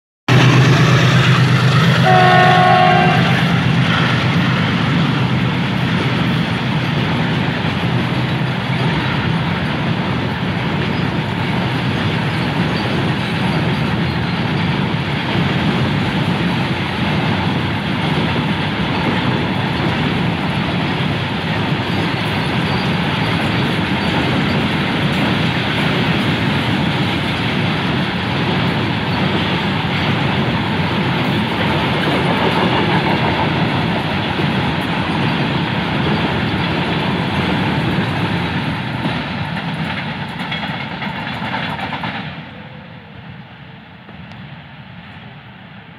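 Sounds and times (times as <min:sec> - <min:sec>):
steel wheels clattering on rails: 0:00.3 - 0:42.4
freight train rumbling past: 0:00.3 - 0:45.9.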